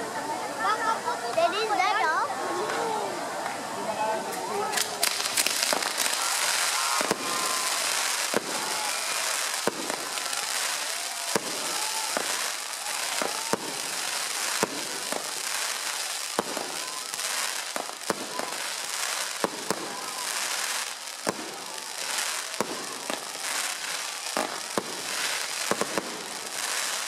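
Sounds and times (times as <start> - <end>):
crackling hiss of sparks: 4.2 - 27.0
firework bangs: 4.5 - 27.0.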